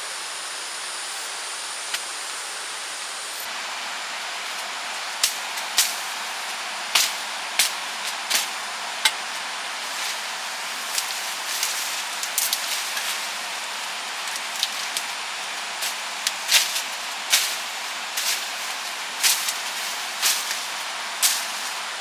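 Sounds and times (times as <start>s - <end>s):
rushing water: 3.5s - 22.0s.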